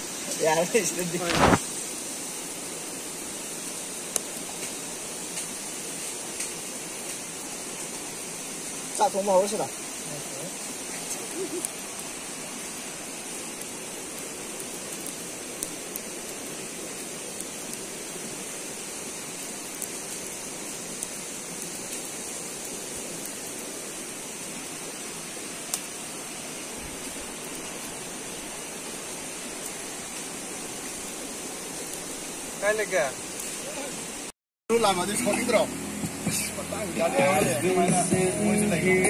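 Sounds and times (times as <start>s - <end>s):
campfire crackles: 0.0s - 39.0s
flowing water rushing: 0.0s - 39.0s.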